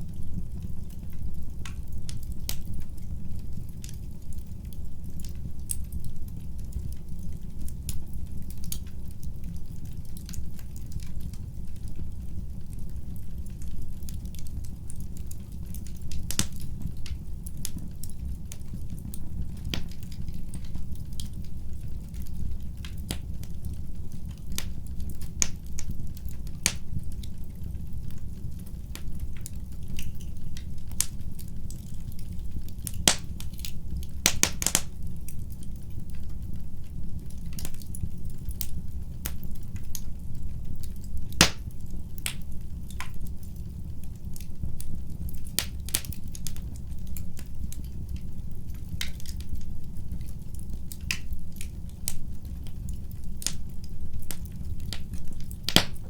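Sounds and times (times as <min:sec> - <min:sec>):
flames rumbling in a fireplace: 0:00.0 - 0:56.0
wood fire crackling and popping: 0:00.0 - 0:56.0.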